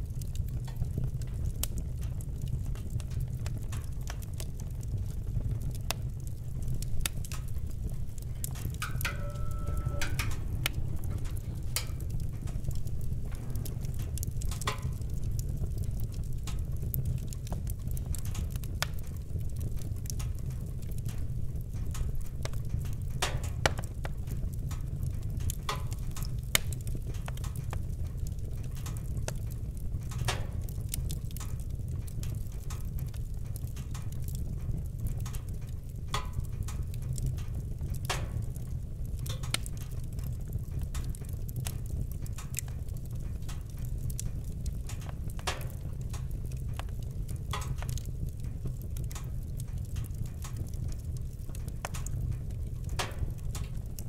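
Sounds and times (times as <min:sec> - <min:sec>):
loud snaps of fire: 0:00.0 - 0:54.0
low rumble of burning: 0:00.0 - 0:54.0
wood fire crackling: 0:00.0 - 0:54.0.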